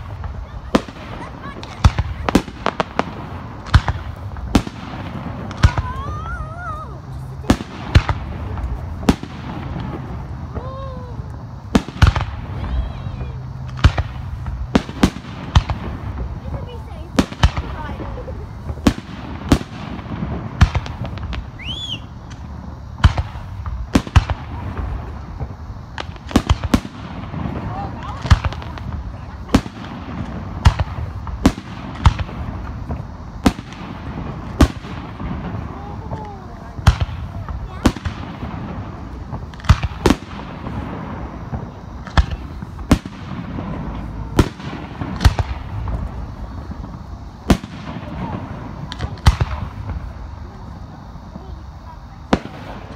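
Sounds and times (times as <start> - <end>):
fireworks bursting with bangs: 0.0 - 52.9
fireworks crackles: 0.0 - 52.9
firework whistle: 3.6 - 50.7.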